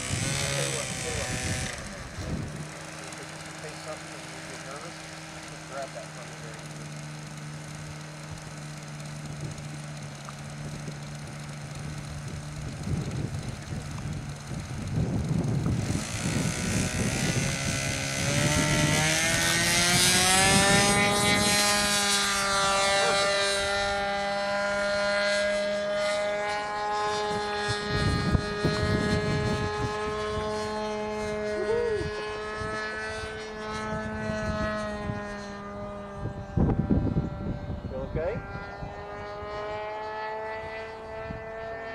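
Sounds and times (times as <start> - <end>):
model airplane motor whining: 0.0 - 41.9.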